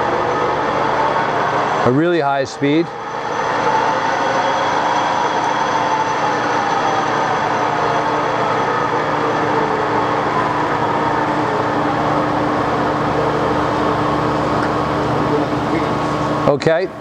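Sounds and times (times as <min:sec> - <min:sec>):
lathe whirring with whining tones: 0:00.0 - 0:17.0.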